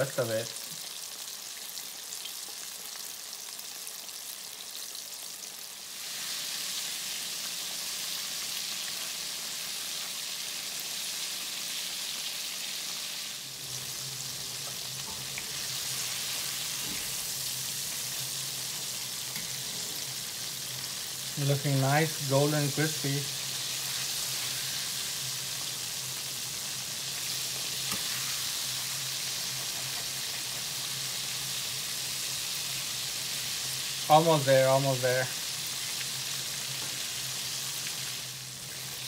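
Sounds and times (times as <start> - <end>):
chicken deep-frying in oil: 0.0 - 39.0.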